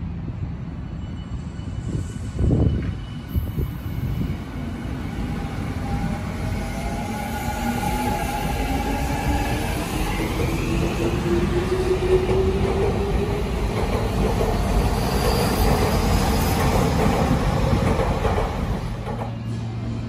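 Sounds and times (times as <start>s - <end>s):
train wheels rumbling on rails: 1.1s - 20.0s.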